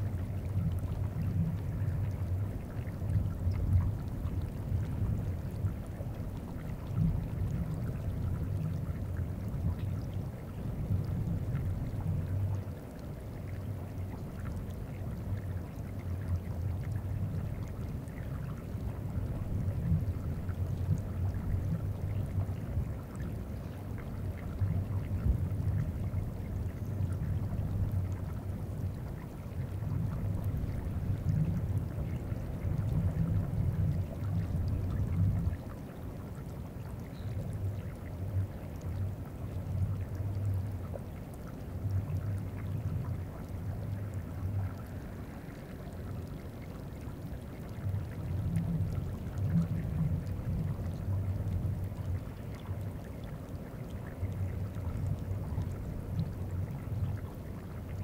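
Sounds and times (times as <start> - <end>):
meltwater trickling and ticking: 0.0 - 58.0.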